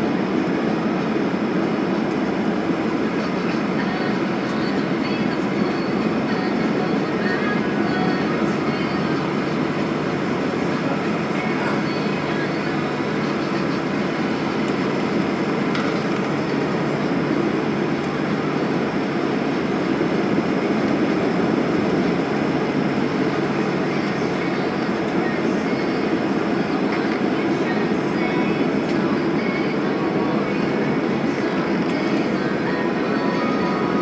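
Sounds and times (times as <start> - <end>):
airplane cabin air-conditioning noise: 0.0 - 34.0
jet engines idling: 0.0 - 34.0.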